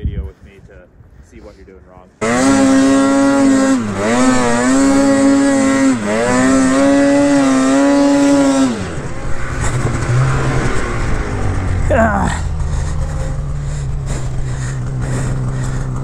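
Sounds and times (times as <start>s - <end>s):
snowmobile engine revving: 2.2s - 16.0s.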